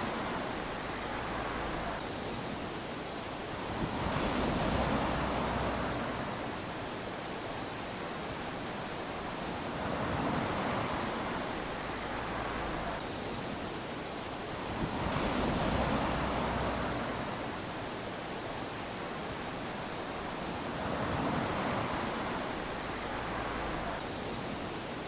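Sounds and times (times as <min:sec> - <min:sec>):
waves lapping on sand: 0:00.0 - 0:25.0.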